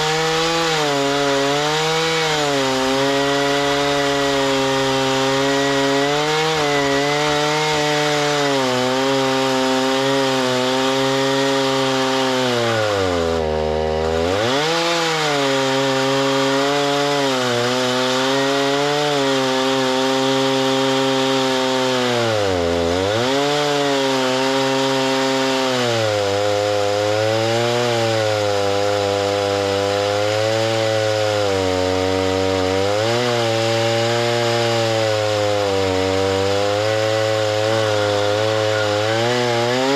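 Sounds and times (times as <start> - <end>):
chainsaw engine under load: 0.0 - 39.9.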